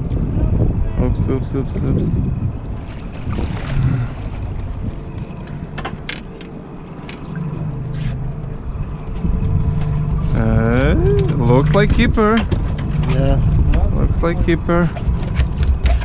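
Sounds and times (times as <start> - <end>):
wind buffeting microphone: 0.0 - 6.9, 8.6 - 16.0
fishing boat engine rumble: 0.0 - 16.0
low steady hum: 0.0 - 16.0.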